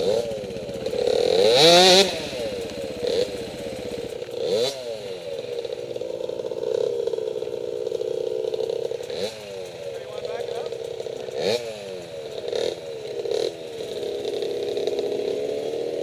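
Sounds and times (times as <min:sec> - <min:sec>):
motorcycle engines idling: 0:00.0 - 0:16.0.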